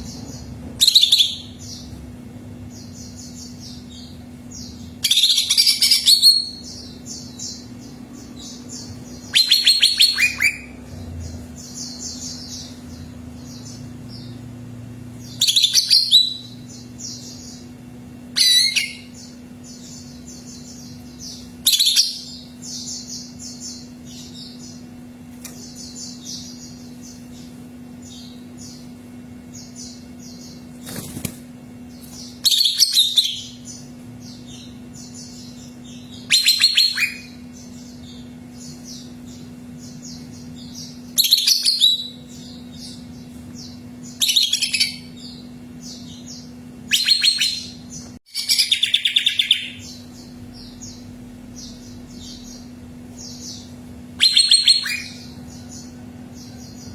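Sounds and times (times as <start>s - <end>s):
bird singing high chirps: 0.0s - 2.0s, 2.8s - 14.5s, 15.2s - 17.7s, 18.3s - 24.8s, 32.1s - 56.9s
steady low hum: 0.0s - 56.9s.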